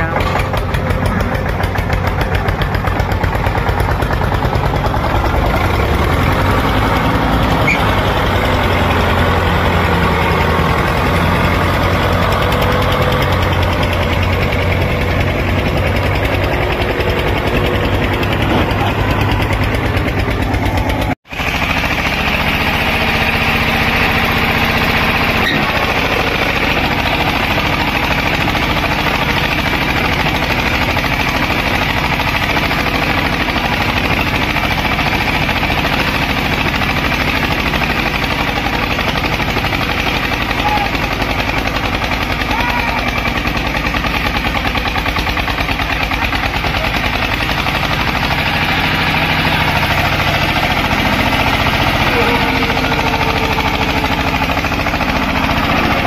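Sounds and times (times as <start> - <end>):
diesel tractor engines running: 0.0 - 56.0
engine high-pitched rattle: 0.0 - 56.0.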